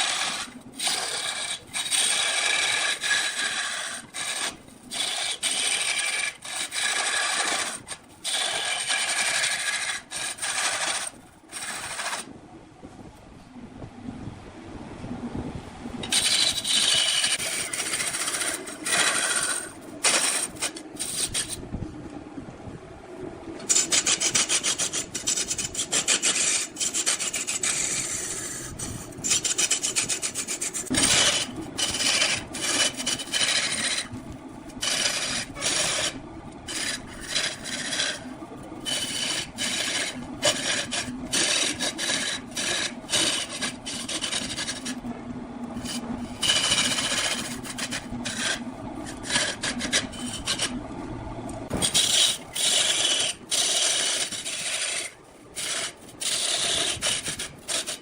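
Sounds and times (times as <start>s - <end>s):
lathe tool scraping wood: 0.0s - 12.3s, 16.0s - 21.6s, 23.7s - 45.0s, 45.6s - 50.8s, 51.7s - 58.0s.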